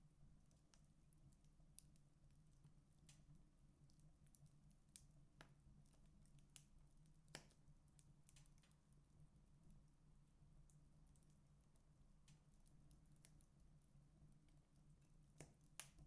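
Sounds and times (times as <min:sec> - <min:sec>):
wood fire crackling: 0:00.2 - 0:16.0.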